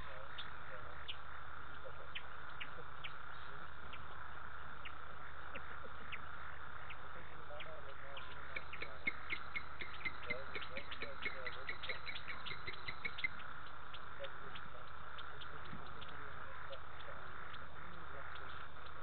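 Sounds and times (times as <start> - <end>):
frogs chirping: 0.0 - 19.0
insects droning: 0.0 - 19.0
low frog croaks: 0.0 - 19.0.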